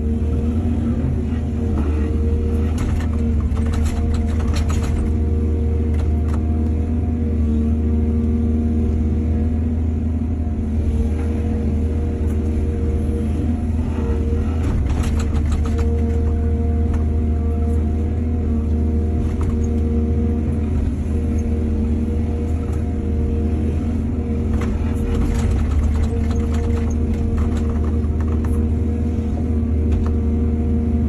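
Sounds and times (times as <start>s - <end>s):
diesel excavator engine humming: 0.0s - 31.0s.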